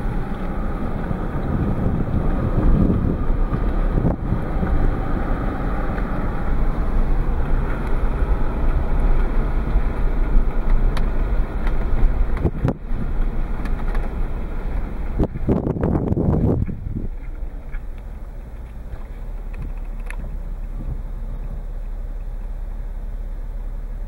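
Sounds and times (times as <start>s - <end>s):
wind buffeting microphone: 0.0s - 21.7s
vehicle rumble from inside cab: 0.0s - 24.0s.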